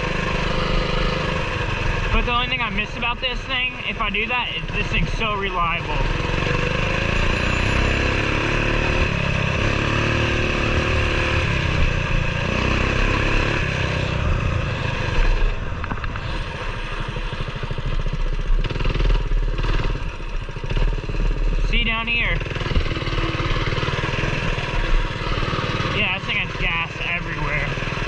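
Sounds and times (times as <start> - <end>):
mini bike engine running: 0.0 - 28.0.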